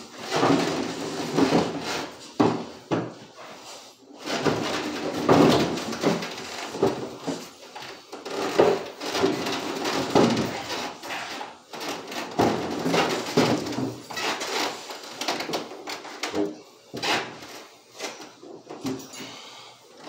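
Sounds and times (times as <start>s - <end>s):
wood creaking and knocking: 0.2s - 3.4s, 4.3s - 17.4s.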